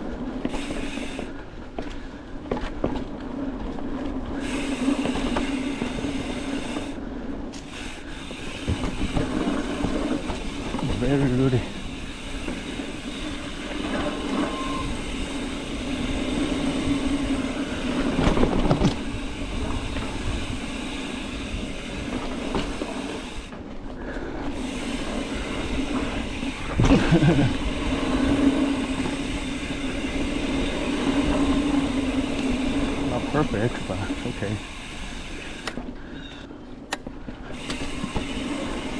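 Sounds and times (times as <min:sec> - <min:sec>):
wheels knocking on roots: 0:00.0 - 0:36.0, 0:36.8 - 0:38.9
bike rattling: 0:00.0 - 0:38.9
bike tyres rumbling on dirt: 0:00.0 - 0:38.9.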